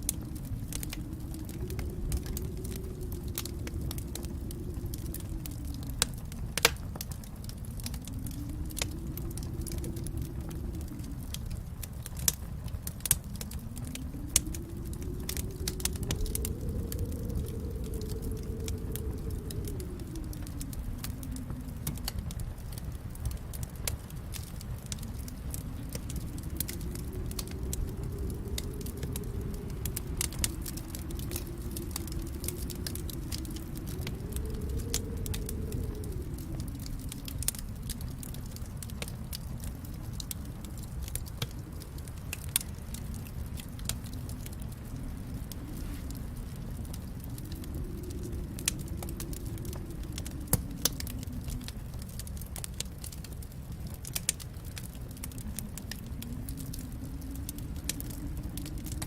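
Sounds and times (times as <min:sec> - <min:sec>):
fire crackling and popping: 0:00.0 - 0:59.0
fire flames rumbling: 0:00.0 - 0:59.0.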